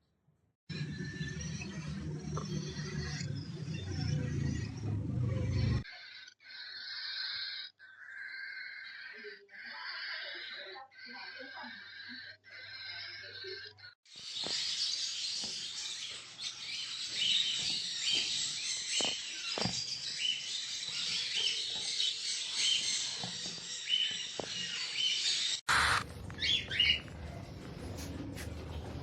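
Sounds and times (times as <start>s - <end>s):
many birds twittering: 0.7s - 27.5s.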